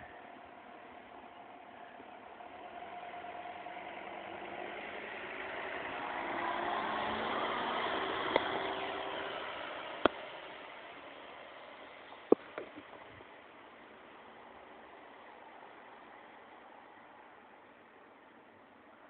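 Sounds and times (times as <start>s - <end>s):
ambulance engine and tyre noise: 0.0s - 19.0s.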